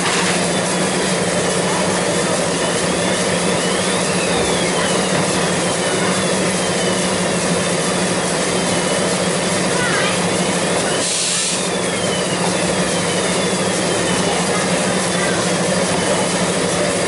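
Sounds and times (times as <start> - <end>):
printing machine running: 0.0 - 17.0.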